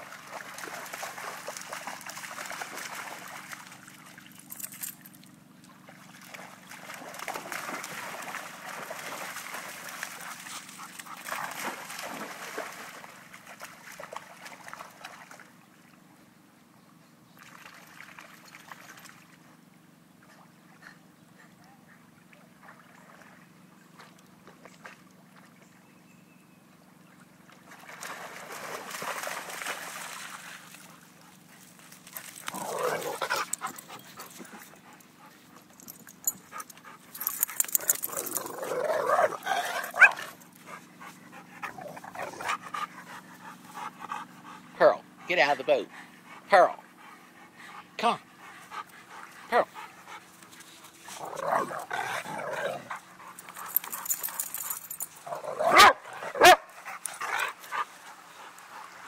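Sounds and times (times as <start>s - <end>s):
dogs splashing through water: 0.0s - 16.1s, 17.4s - 20.7s, 22.0s - 25.9s, 26.9s - 59.0s.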